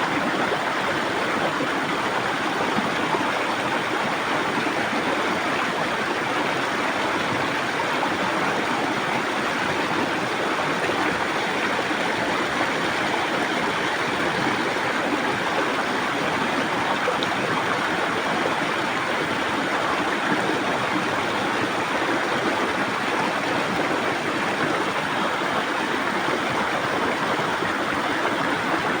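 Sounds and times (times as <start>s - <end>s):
river water rushing: 0.1s - 29.0s.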